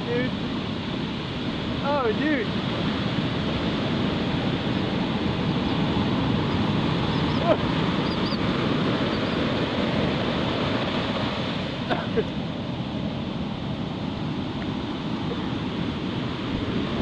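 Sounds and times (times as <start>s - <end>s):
heavy surf breaking: 0.0s - 17.0s.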